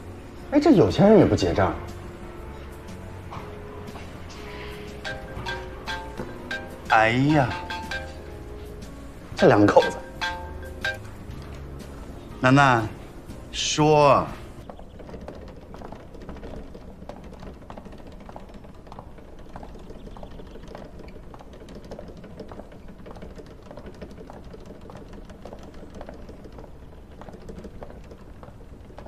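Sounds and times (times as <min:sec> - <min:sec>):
rolling suitcase rumble: 0:00.0 - 0:29.0.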